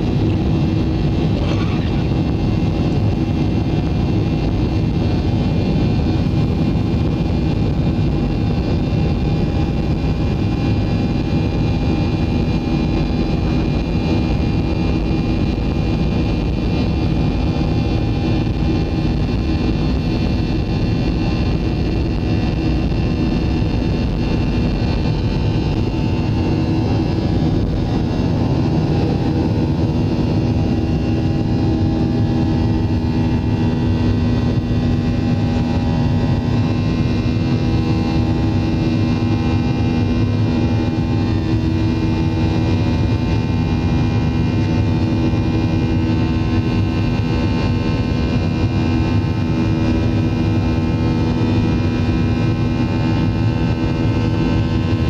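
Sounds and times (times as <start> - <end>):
jet engines roaring at takeoff: 0.0 - 55.0.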